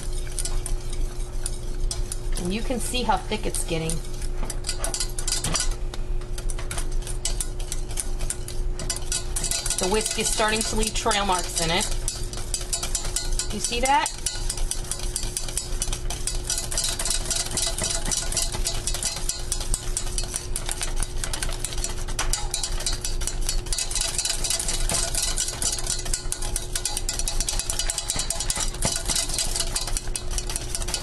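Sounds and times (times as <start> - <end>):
low steady hum: 0.0 - 31.0
whisk scraping metal saucepan: 0.0 - 31.0.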